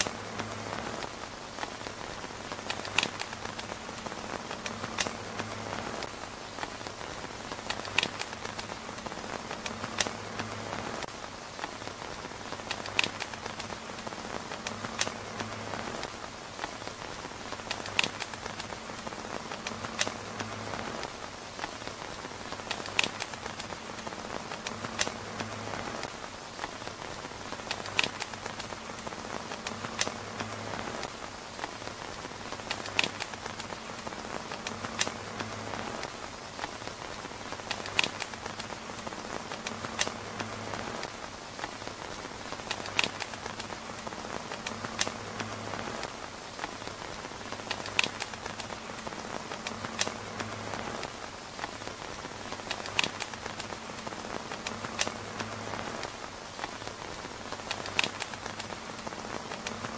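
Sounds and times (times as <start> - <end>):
rain pattering on tent fabric: 0.0 - 59.9.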